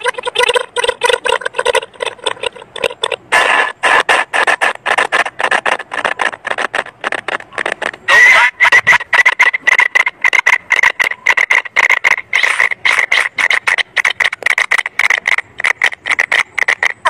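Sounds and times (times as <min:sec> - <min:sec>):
noisy burst: 0:00.0 - 0:17.0.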